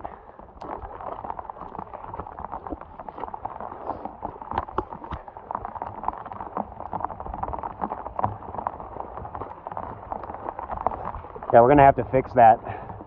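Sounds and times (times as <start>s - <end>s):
boots splashing through water: 0.0s - 13.0s.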